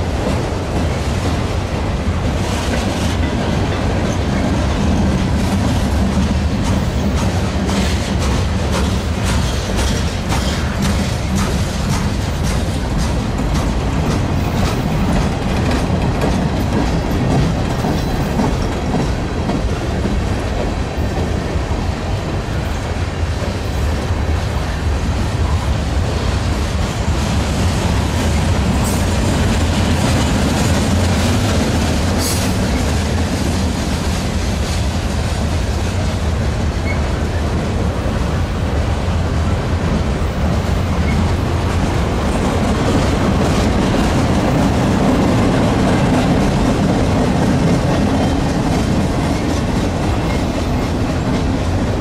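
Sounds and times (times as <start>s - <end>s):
freight train rumbling past: 0.0s - 52.0s
train wheels clicking and clacking: 0.0s - 52.0s.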